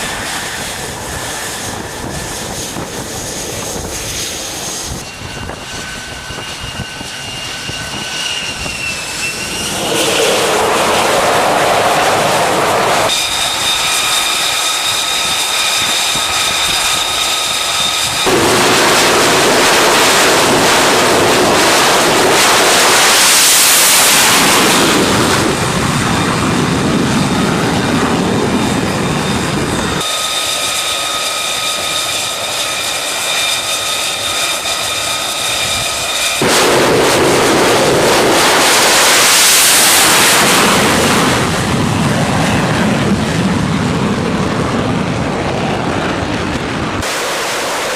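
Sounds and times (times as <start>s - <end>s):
jet engine roar: 0.0s - 47.9s
jet turbine whine: 0.0s - 47.9s.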